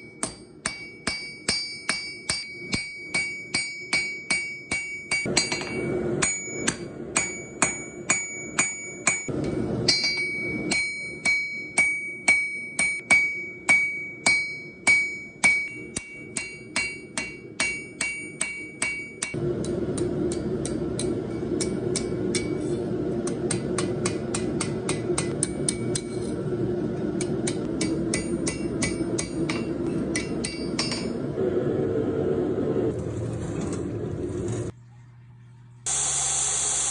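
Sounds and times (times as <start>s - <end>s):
hammer striking steel on anvil: 0.0s - 26.4s, 27.0s - 31.2s.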